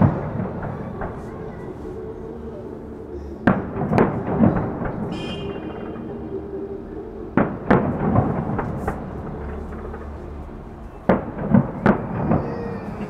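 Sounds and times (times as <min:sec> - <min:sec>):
distant fireworks booming: 0:00.0 - 0:02.2, 0:03.0 - 0:13.0
fireworks rumbling and crackling: 0:00.0 - 0:13.0.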